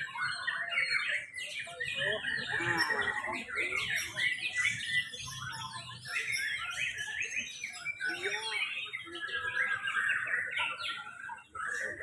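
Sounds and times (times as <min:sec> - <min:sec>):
many birds singing: 0:00.0 - 0:12.0.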